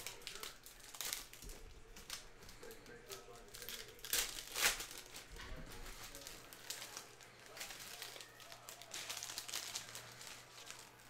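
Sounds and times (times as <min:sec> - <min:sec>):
crinkling of pack wrappers: 0:00.0 - 0:11.0.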